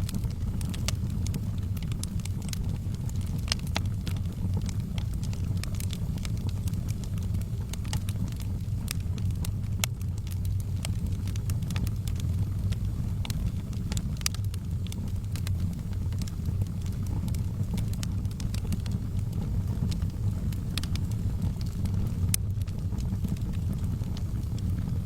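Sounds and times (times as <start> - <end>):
fire flames rumbling: 0.0 - 25.0
logs crackling and popping: 0.0 - 25.0.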